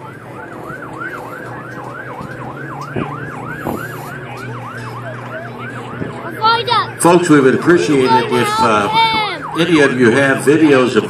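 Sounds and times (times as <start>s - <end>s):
fire truck siren yelping: 0.0s - 11.0s.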